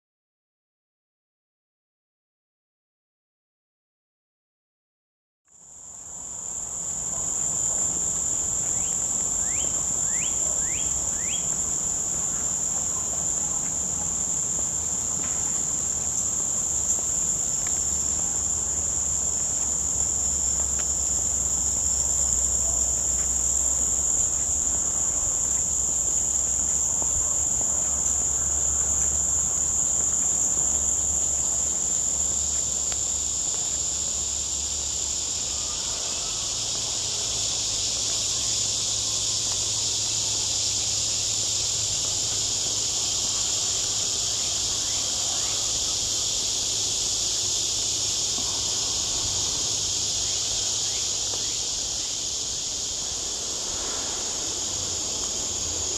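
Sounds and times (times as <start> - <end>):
insects droning: 5.5 - 55.9.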